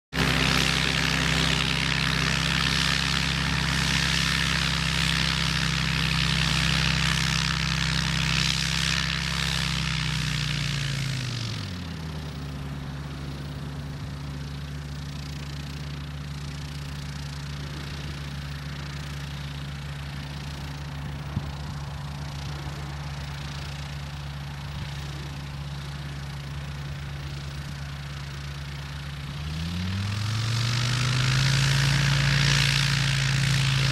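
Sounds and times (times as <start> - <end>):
motor glider engine and propeller: 0.1 - 33.9.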